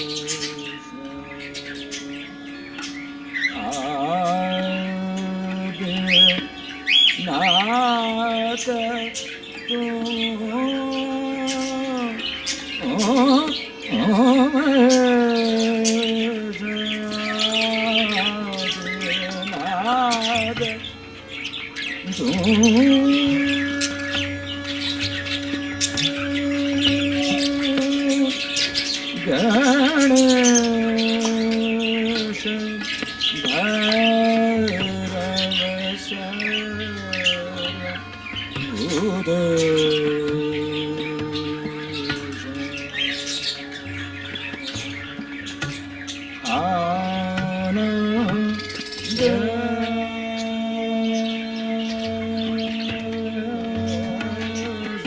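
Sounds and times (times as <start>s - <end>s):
caged birds chirping and squawking: 0.0s - 55.0s
slow background music: 0.0s - 55.0s.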